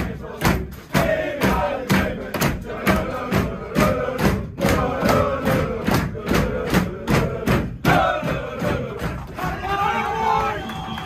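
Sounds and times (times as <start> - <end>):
slaps on walls and lockers: 0.0 - 9.6
rhythmic hand claps: 0.0 - 11.0
team chanting together: 0.0 - 11.0.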